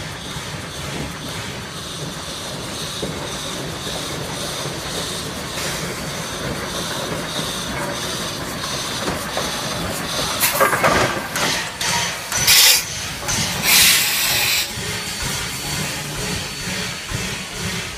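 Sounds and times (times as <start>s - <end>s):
steam hissing bursts: 0.0s - 17.9s
steam locomotive rumbling: 0.0s - 17.9s.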